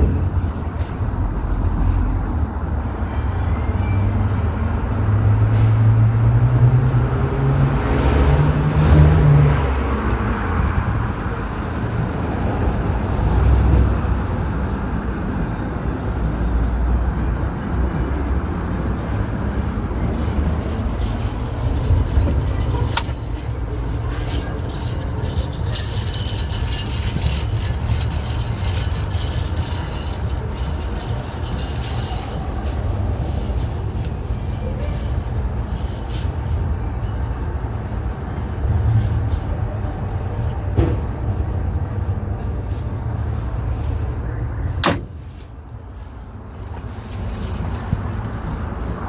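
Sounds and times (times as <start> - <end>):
street traffic rumbling: 0.0 - 49.0
vehicle engine hum: 0.0 - 49.0.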